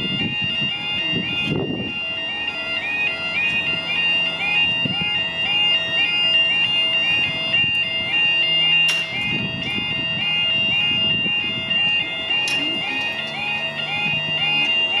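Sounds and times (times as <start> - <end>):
level crossing warbling alarm: 0.0 - 15.0
steady high tone: 0.0 - 15.0.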